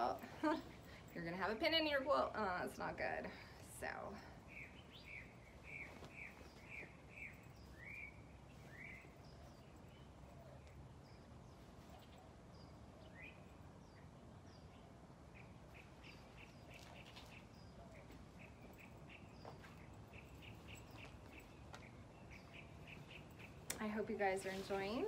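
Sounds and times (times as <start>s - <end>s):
faint birds chirping: 0.0s - 25.0s
outdoor background noise: 0.0s - 25.0s.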